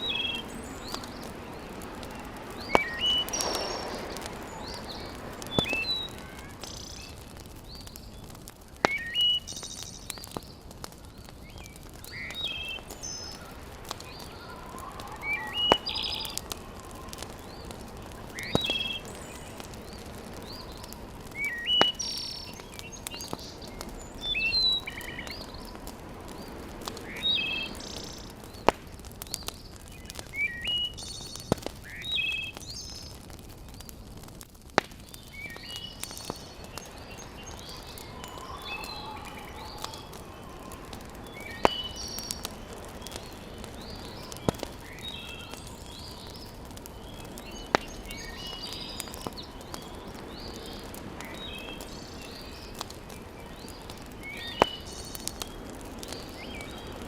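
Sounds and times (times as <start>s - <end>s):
birds chirping: 0.0s - 57.0s
wood fire popping: 0.0s - 57.0s.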